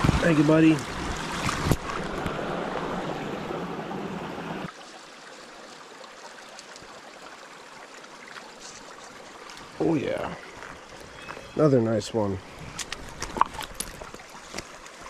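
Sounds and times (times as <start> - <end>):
stream running over stones: 0.0 - 15.0.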